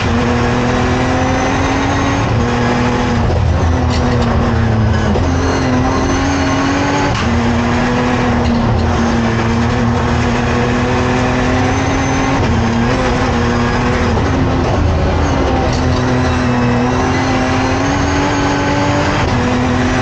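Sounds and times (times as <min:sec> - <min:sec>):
car engine revving under load: 0:00.0 - 0:20.0
road noise: 0:00.0 - 0:20.0.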